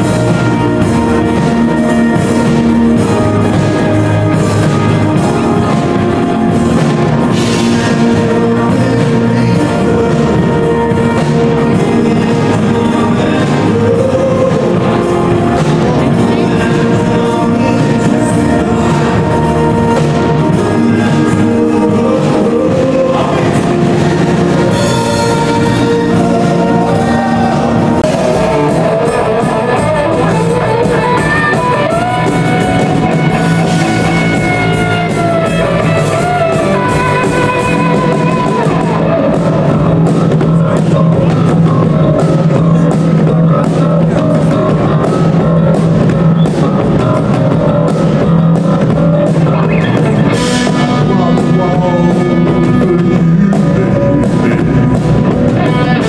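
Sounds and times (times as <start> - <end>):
bending guitar melody: 0.0 - 56.0
rock music with drums and guitar: 0.0 - 56.0.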